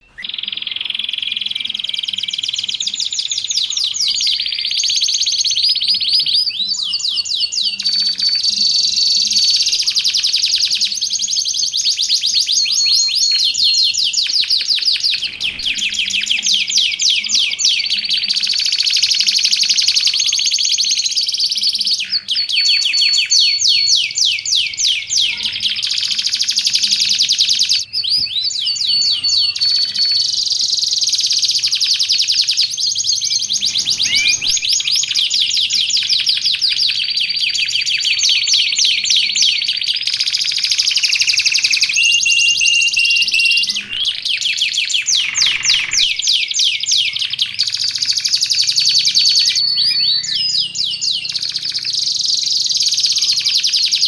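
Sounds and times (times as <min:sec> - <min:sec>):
canary singing in trills: 0:00.0 - 0:54.0.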